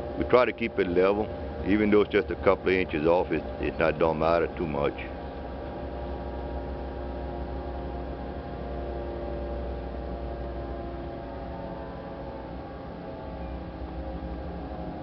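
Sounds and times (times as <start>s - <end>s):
hydraulic winch humming: 0.0s - 15.0s.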